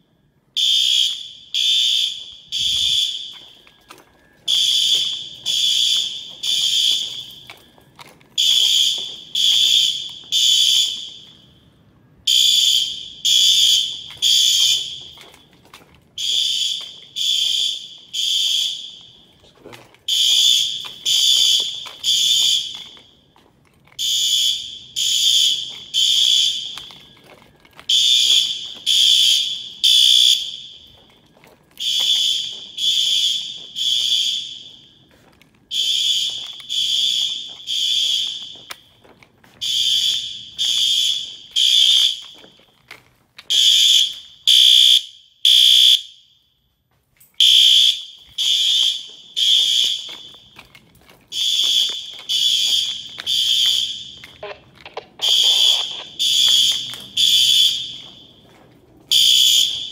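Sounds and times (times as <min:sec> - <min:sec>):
fire alarm horn blasts: 0:00.0 - 0:19.4, 0:20.0 - 0:23.3, 0:23.9 - 0:39.0, 0:39.6 - 0:42.6, 0:43.5 - 0:46.6, 0:47.4 - 0:59.9.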